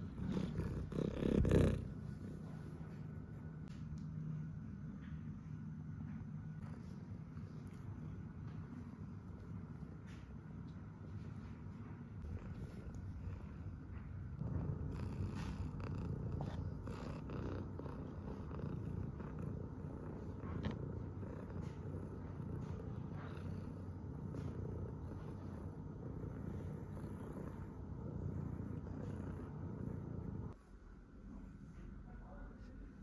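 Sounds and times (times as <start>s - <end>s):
cat purring: 0.0s - 3.7s, 6.5s - 30.6s.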